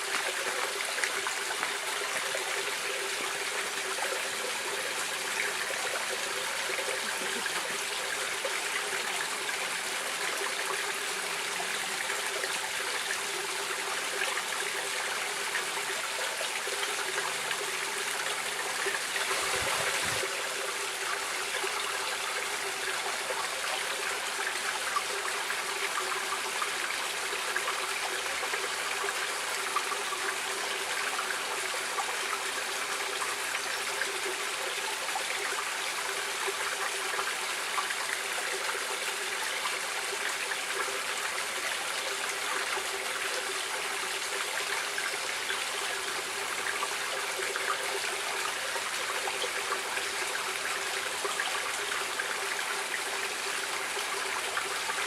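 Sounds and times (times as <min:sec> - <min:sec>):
stream water flowing and splashing: 0:00.0 - 0:55.0.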